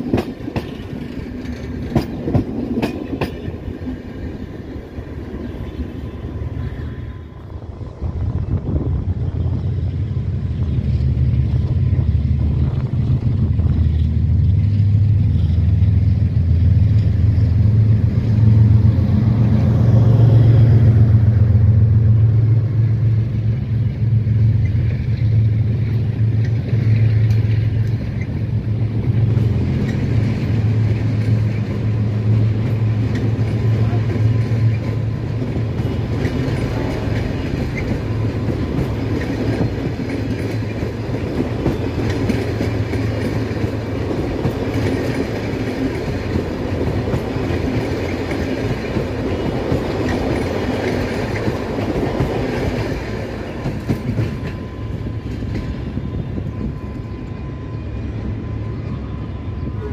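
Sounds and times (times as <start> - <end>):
diesel locomotive engine drone: 0.0 - 59.9
train wheels on rails: 0.0 - 59.9.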